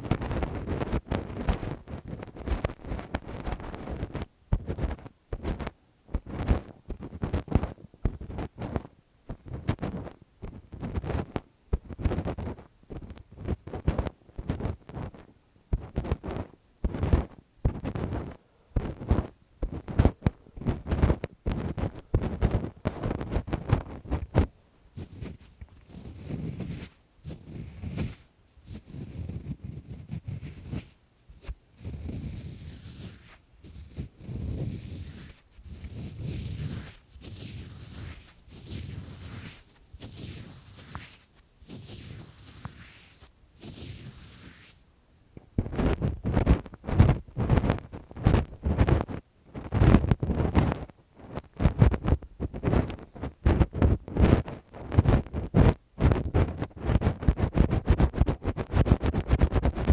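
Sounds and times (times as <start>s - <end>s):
fingers scratching a microphone: 0.0s - 44.8s, 45.6s - 59.9s.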